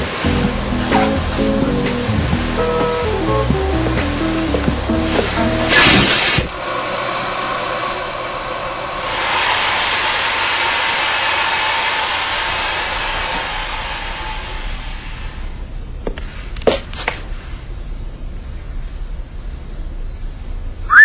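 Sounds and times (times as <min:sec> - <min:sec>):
vacuum cleaner running: 0:00.0 - 0:16.8.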